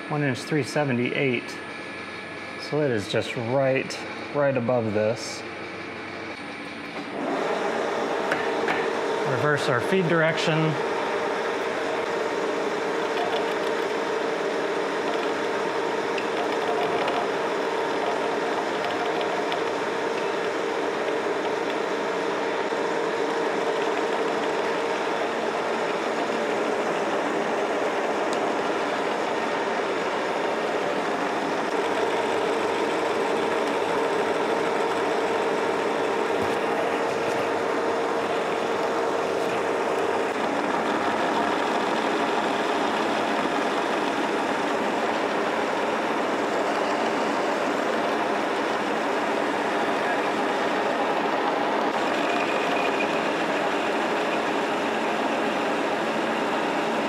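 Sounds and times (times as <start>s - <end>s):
lathe humming: 0.0s - 57.0s.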